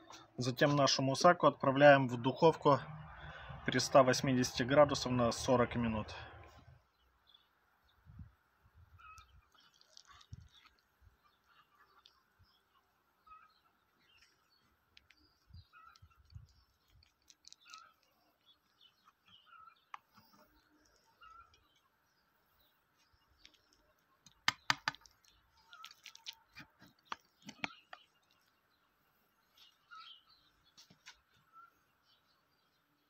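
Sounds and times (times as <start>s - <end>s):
faint bird chirping: 6.5s - 33.0s.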